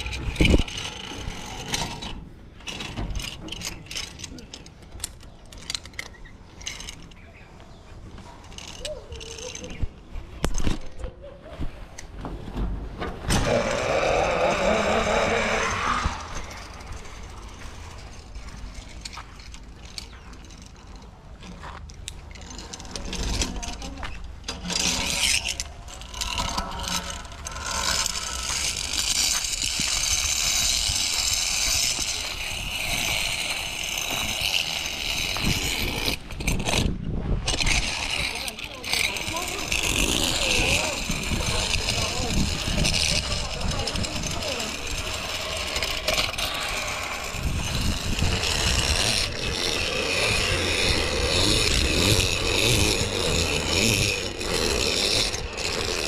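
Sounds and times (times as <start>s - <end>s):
pulley trolley whirring on cable: 0.0s - 11.1s, 11.9s - 56.0s.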